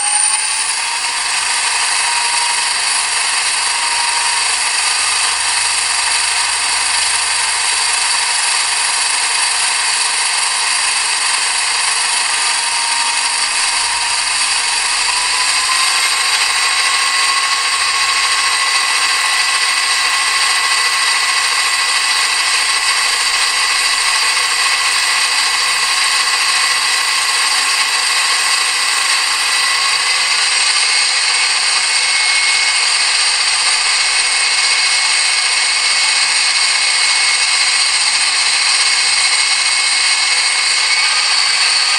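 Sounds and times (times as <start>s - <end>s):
diesel locomotive engine through small speaker: 0.0s - 41.9s
steady whine: 0.0s - 41.9s.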